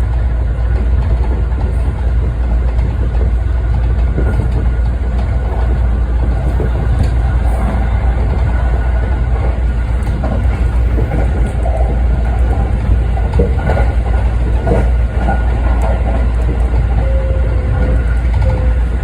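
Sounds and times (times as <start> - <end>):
electric train rumble: 0.0 - 19.0
wheel-on-rail clatter: 0.0 - 19.0.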